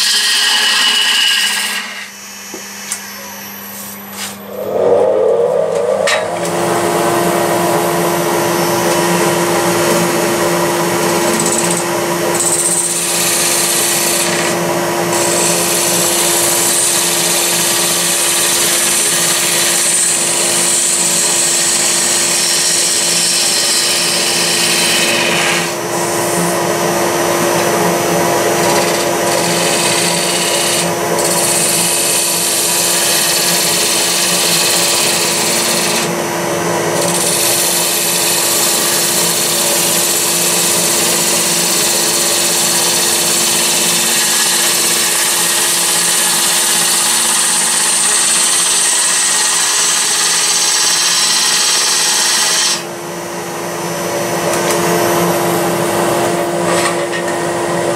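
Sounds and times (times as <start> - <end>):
wood lathe humming: 0.0 - 52.9.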